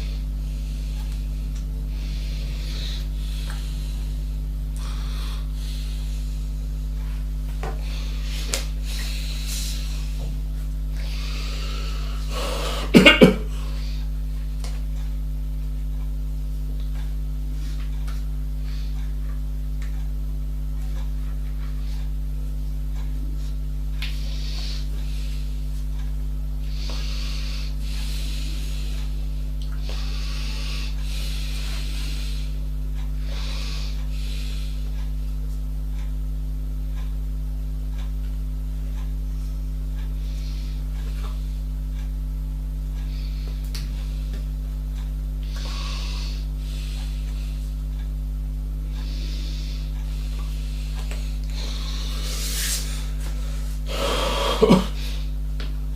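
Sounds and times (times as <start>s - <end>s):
low electrical hum: 0.0s - 55.9s.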